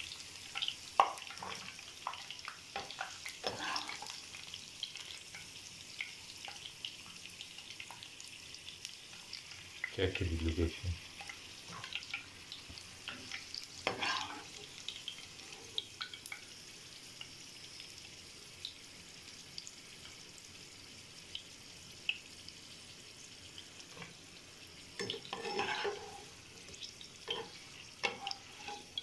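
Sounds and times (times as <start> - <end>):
fries sizzling and crackling: 0.0 - 29.0.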